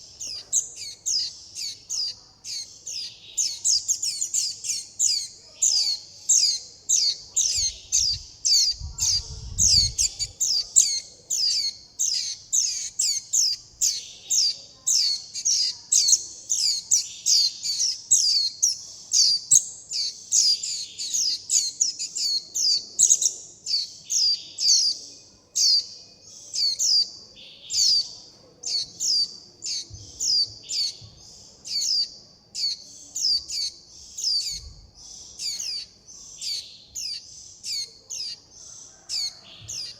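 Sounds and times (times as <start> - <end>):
bird chick chirping: 0.0 - 39.9.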